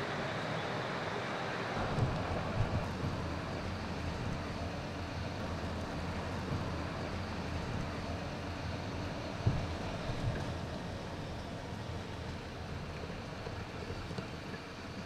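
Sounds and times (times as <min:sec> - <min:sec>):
vehicle driving on road: 0:00.0 - 0:15.0.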